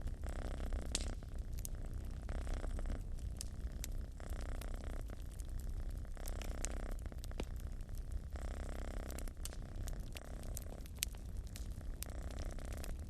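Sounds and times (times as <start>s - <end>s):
cat purring: 0.0s - 13.0s
wood fire crackling and popping: 0.0s - 13.0s.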